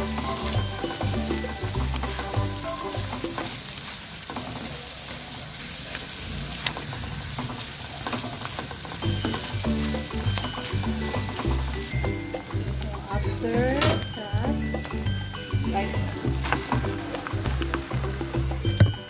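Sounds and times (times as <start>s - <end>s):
food sizzling in a wok: 0.0s - 19.0s.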